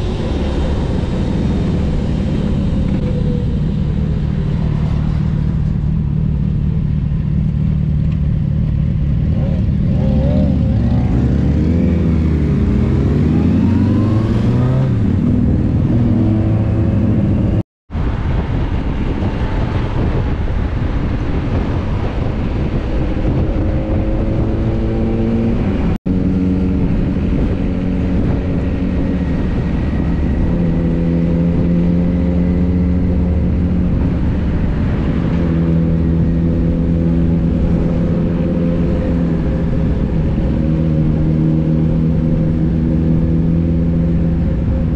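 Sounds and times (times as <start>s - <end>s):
motorcycle engines accelerating: 0.0s - 44.9s.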